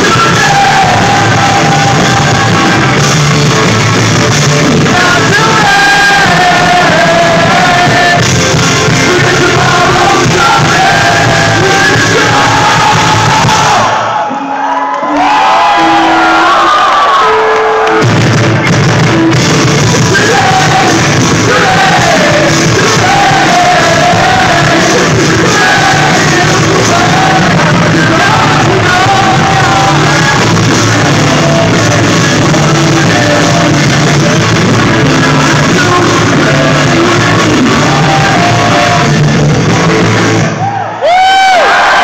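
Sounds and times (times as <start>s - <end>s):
live rock band playing: 0.0s - 14.0s, 17.2s - 40.6s
person singing: 0.0s - 14.0s, 19.4s - 40.3s.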